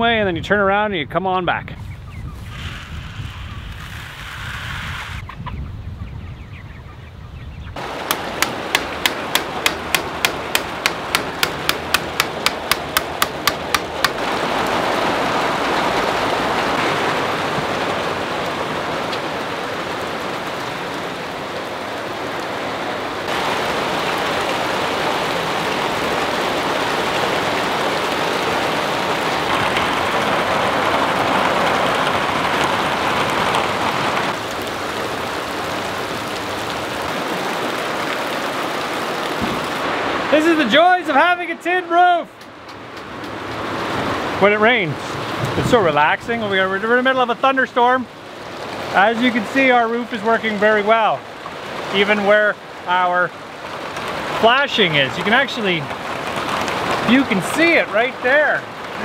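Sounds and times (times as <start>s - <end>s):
heavy rain on a tin roof: 7.8s - 59.0s.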